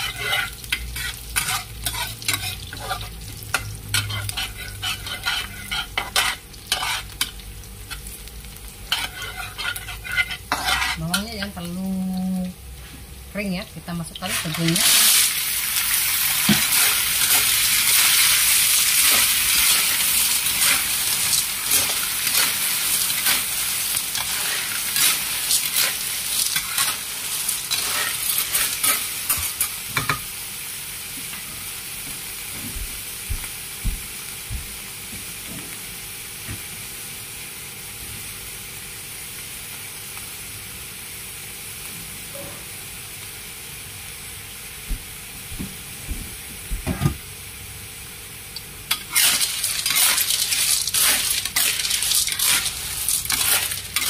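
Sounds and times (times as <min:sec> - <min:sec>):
sizzling in hot oil: 0:00.0 - 0:45.6, 0:46.6 - 0:54.0.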